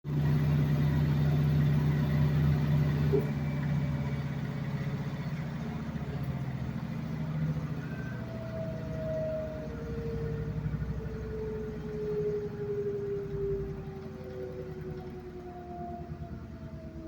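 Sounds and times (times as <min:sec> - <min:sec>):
washing machine humming: 0:00.1 - 0:17.0.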